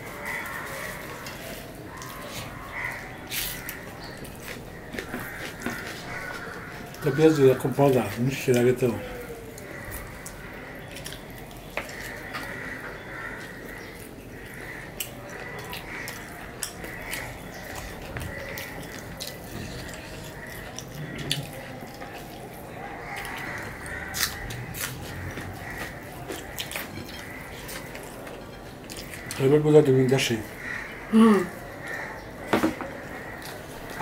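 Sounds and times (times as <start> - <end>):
chewing: 0.0 - 32.2, 32.9 - 34.0.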